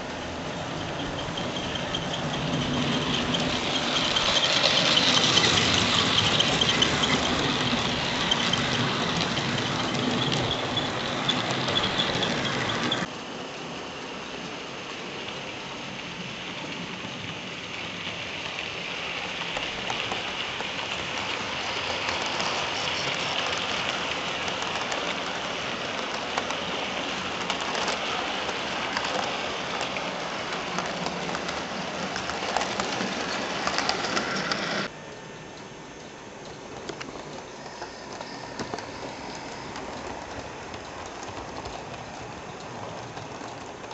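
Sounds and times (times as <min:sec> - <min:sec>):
model train wheels clattering: 0:00.0 - 0:13.1, 0:16.4 - 0:34.9, 0:35.6 - 0:43.9.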